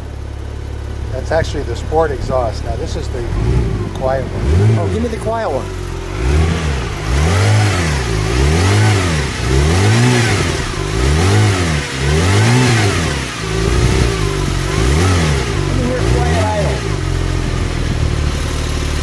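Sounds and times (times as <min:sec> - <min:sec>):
car engine idling: 0:00.0 - 0:19.0
car engine revving: 0:00.0 - 0:19.0.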